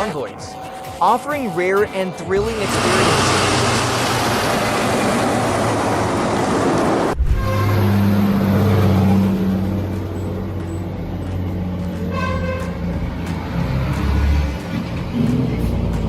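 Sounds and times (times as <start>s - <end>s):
road traffic noise: 0.0s - 16.0s
diesel engine droning: 2.1s - 16.0s.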